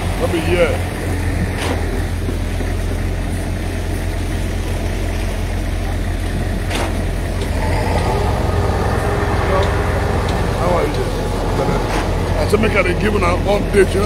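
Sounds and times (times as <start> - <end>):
heavy diesel engine humming: 0.0 - 14.0.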